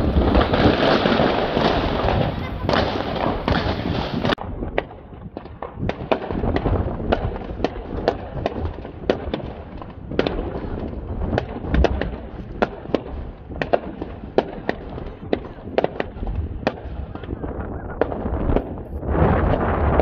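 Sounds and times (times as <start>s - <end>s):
fireworks bangs and crackles: 0.0s - 20.0s
heavy firework boom: 0.0s - 20.0s.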